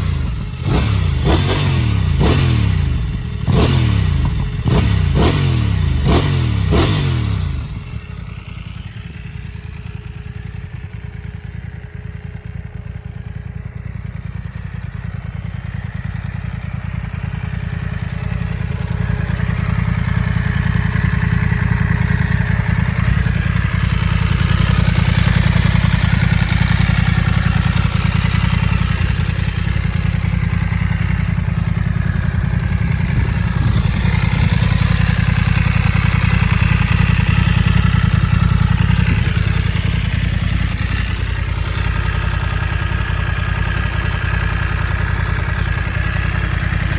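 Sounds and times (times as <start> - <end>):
motorcycle engine revving and idling: 0.0 - 46.9.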